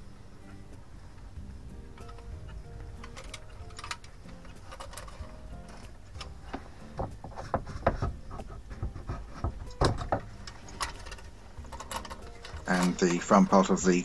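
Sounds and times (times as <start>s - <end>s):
metal toy truck clicks and knocks: 2.0s - 13.2s.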